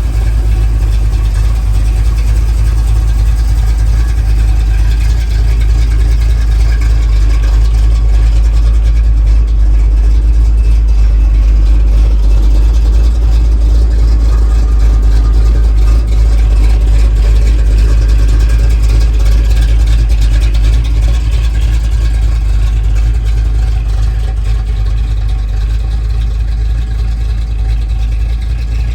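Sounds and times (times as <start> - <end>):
pickup engine rumbling: 0.0 - 28.9.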